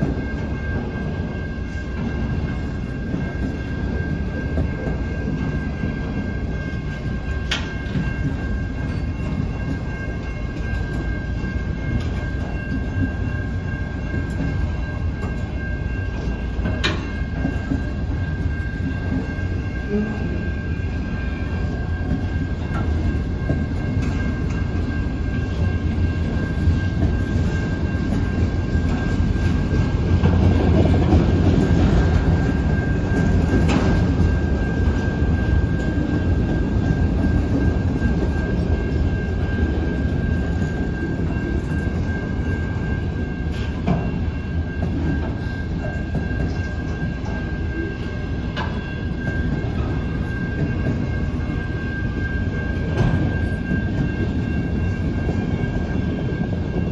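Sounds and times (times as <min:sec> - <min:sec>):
steel wheels rumbling on rails: 0:00.0 - 0:56.9.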